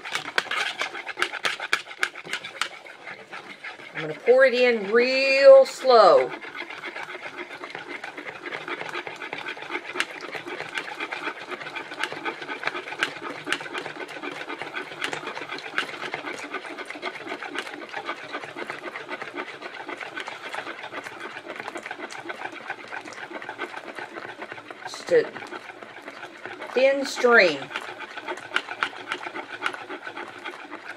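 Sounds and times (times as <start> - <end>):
whisk beating eggs in plastic bowl: 0.0 - 30.9.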